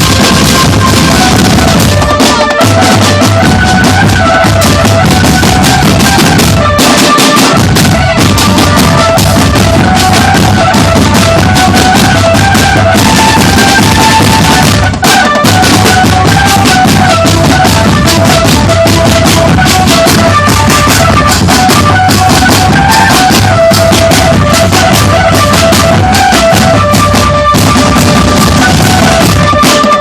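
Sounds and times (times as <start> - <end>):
marching drums: 0.0 - 30.0
melody on pitched instruments: 0.0 - 30.0.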